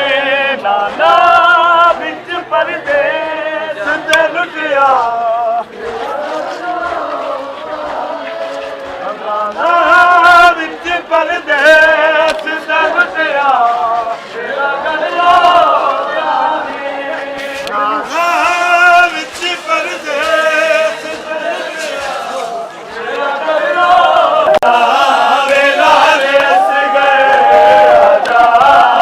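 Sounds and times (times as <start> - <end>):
men chanting a lament: 0.0 - 29.0.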